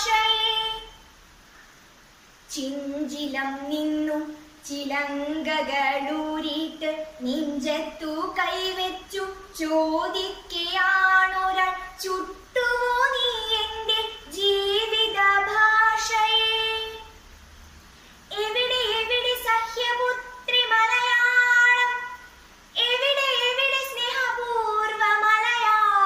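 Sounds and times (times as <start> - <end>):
girl singing solo: 0.0 - 1.2, 2.5 - 17.2, 18.3 - 26.0.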